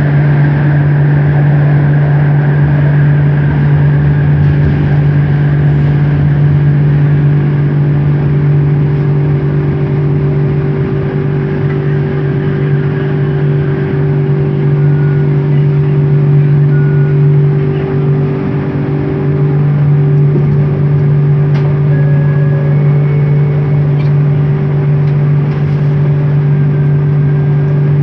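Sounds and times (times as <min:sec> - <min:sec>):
train motor hum: 0:00.0 - 0:28.0
train running rumble: 0:00.0 - 0:28.0.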